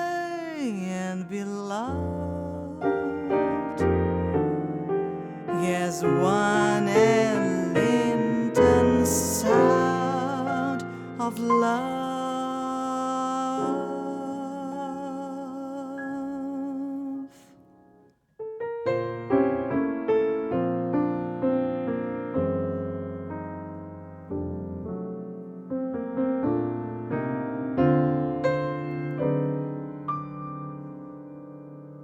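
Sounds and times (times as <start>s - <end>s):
piano chords: 0.0s - 32.0s.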